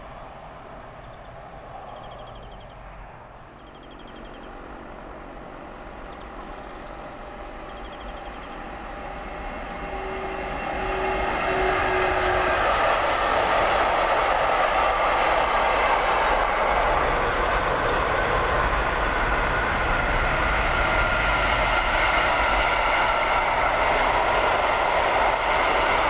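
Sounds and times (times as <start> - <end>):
train rolling on rails: 0.0 - 26.0.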